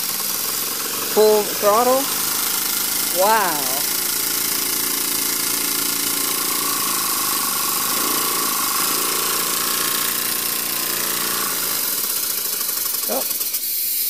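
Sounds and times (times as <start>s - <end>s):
steam engine running fast: 0.0s - 14.0s
steam hissing: 0.0s - 14.0s.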